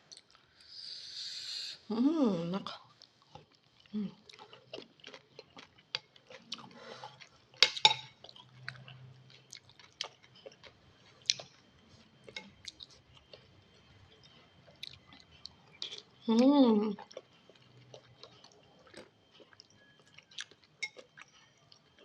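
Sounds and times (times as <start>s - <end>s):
person chewing noodles: 3.0s - 16.2s, 16.9s - 22.0s.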